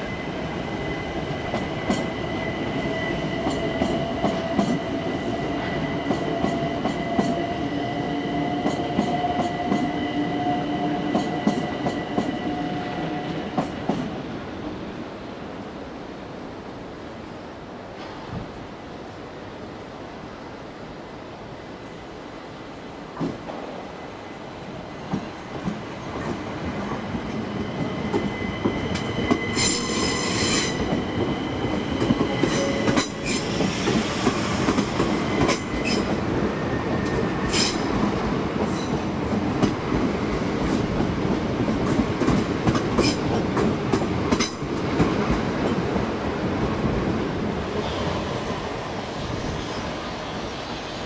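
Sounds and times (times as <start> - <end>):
train rumble: 0.0 - 15.3, 22.6 - 51.0.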